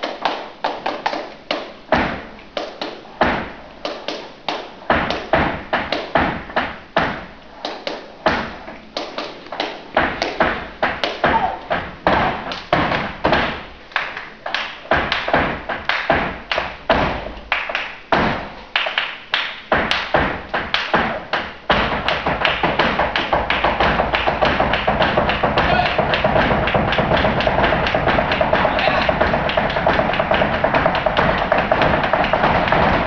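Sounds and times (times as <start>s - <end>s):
shoes stamping on wooden stage: 0.0s - 33.0s.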